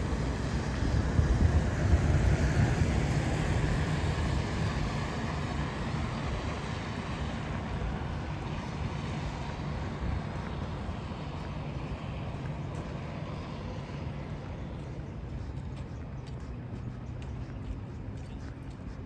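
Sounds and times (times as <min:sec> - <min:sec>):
vehicle passing on road: 0:00.0 - 0:19.0.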